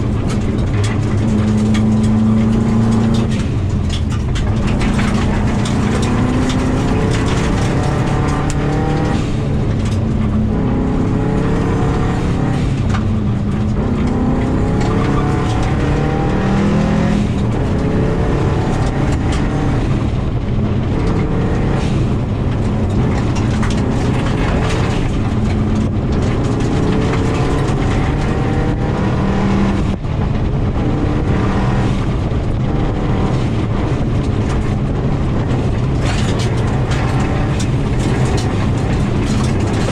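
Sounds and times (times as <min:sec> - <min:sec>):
car engine revving: 0:00.0 - 0:39.9
tyres rumbling on gravel: 0:00.0 - 0:39.9.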